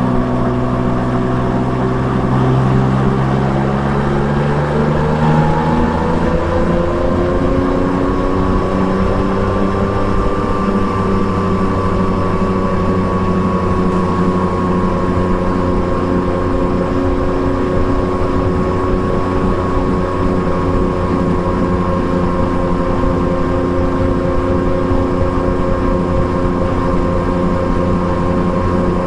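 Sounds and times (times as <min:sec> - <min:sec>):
motorcycle engine cruising: 0:00.0 - 0:29.0.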